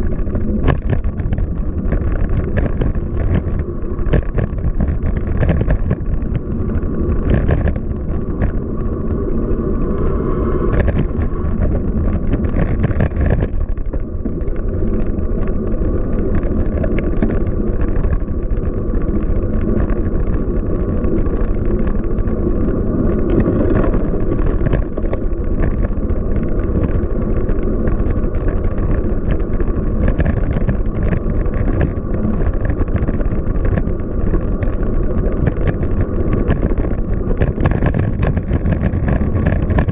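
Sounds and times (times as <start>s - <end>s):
low road rumble: 0.0s - 39.9s
wind buffeting microphone: 0.0s - 39.9s.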